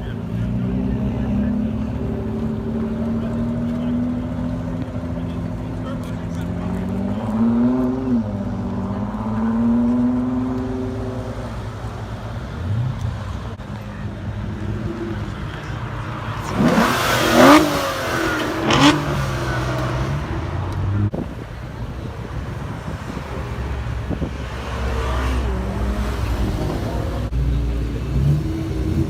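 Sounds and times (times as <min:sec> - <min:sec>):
engines idling rumble: 0:00.0 - 0:29.0
sports car engine revving: 0:00.0 - 0:29.0.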